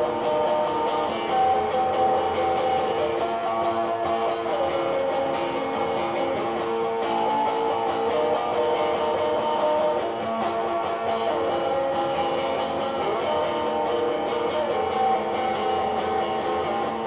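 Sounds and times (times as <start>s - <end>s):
electric guitar notes: 0.0s - 17.0s.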